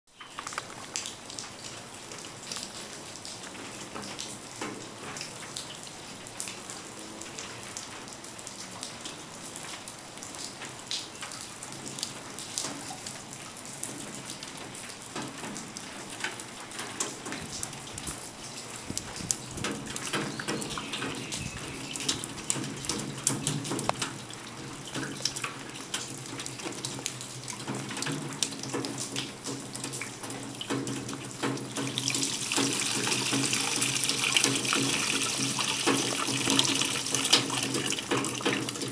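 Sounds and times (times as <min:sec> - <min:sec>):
water dripping into metal tub: 0:00.1 - 0:06.8, 0:07.4 - 0:38.9
water trickling down rain chain: 0:00.1 - 0:38.9.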